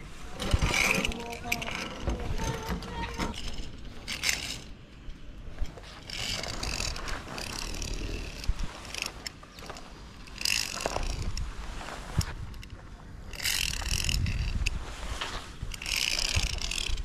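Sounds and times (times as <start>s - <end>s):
metal trolleys rattling on cables: 0.0s - 11.4s, 12.2s - 17.0s.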